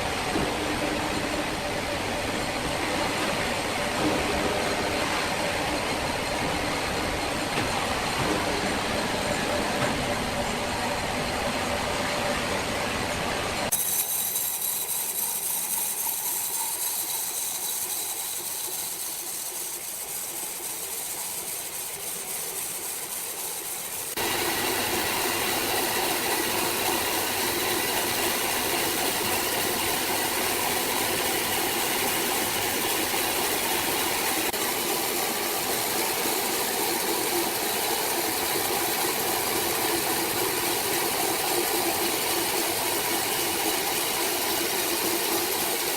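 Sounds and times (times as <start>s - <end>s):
sawmill saw running: 0.0s - 45.9s.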